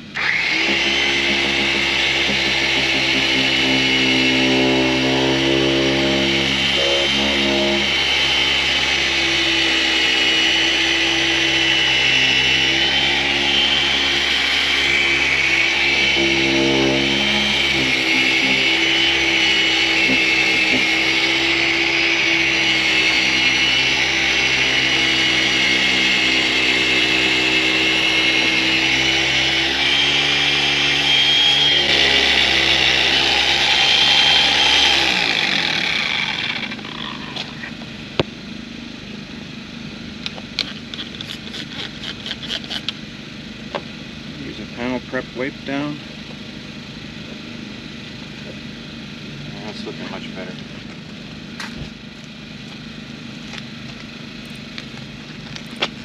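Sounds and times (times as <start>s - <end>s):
car polisher running: 0.0s - 56.0s.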